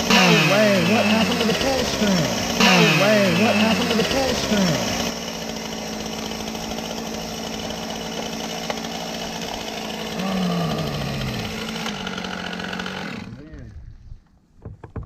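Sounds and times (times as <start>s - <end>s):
small engine running: 0.0s - 13.7s.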